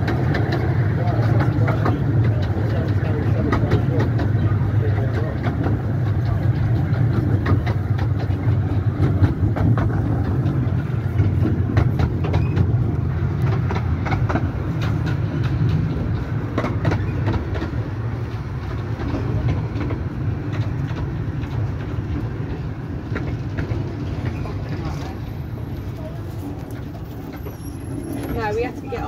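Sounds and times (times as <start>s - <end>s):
train rumble: 0.0s - 29.0s
wheels clacking over rails: 0.0s - 29.0s.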